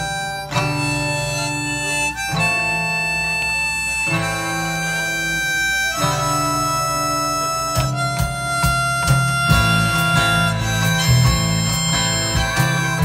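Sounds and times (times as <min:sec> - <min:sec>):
guitars playing: 0:00.0 - 0:13.0
harmonica long notes: 0:00.0 - 0:13.0.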